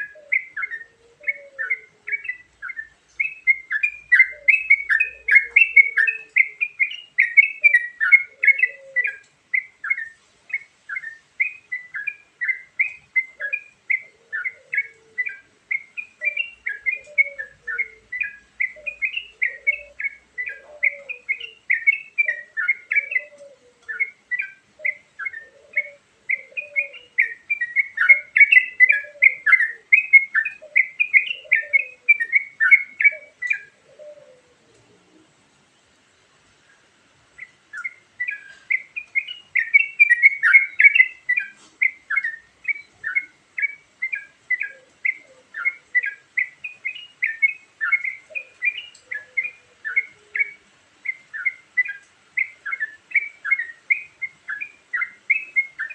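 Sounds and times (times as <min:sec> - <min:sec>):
bird chirping song: 0:00.0 - 0:55.9.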